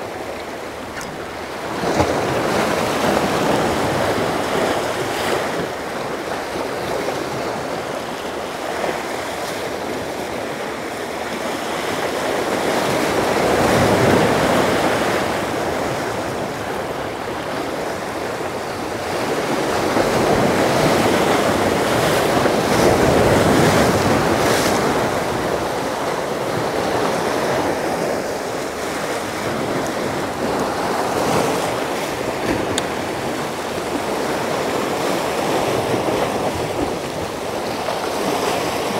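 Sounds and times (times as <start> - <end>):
sea waves washing against a jetty: 0.0 - 38.9.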